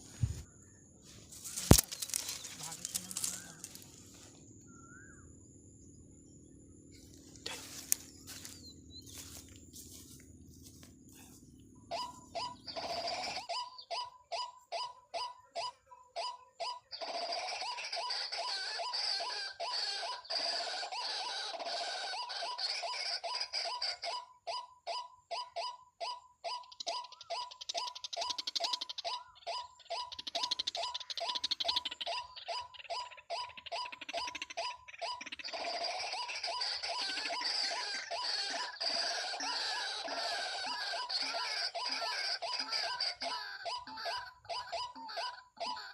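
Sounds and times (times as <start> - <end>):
hissing chatter of bird calls: 0.0 - 10.2, 11.1 - 24.4, 25.4 - 45.9.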